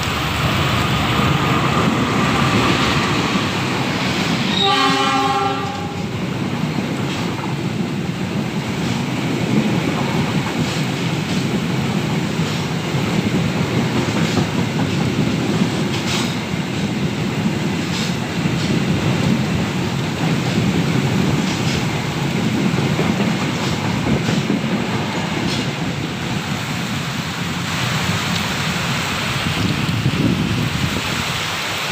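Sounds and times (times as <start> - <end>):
wheels clacking over rail joints: 0.0 - 28.9
heavy rain hissing: 0.0 - 31.9
train carriages rumbling: 0.0 - 31.9.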